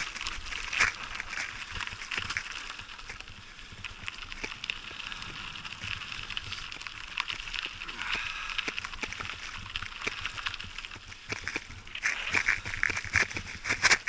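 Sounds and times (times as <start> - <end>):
bicycle tyres rolling over leaves: 0.0 - 14.0.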